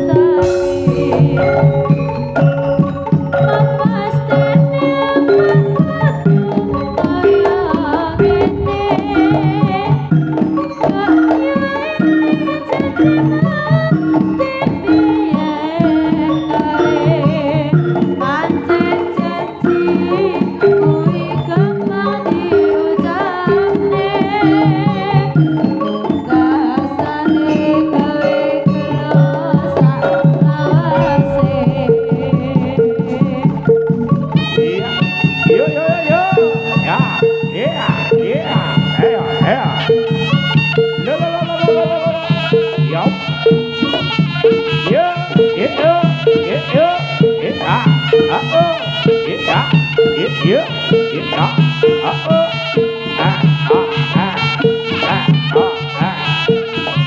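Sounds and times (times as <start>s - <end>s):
wavering melody line: 0.0s - 23.4s, 24.7s - 57.0s
hand drums rhythm: 0.0s - 57.0s
metallophone notes: 0.0s - 57.0s.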